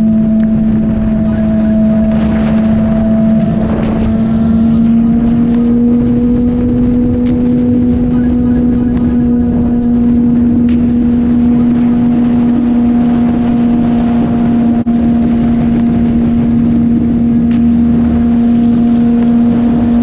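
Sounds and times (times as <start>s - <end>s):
motorcycle engine cruising: 0.0s - 20.0s
wind rushing: 0.0s - 20.0s.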